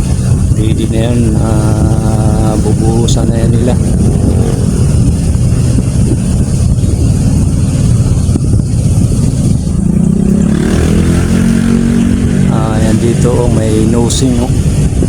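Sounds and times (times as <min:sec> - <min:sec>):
moving vehicle: 0:00.0 - 0:15.0
wind buffeting microphone: 0:00.0 - 0:15.0.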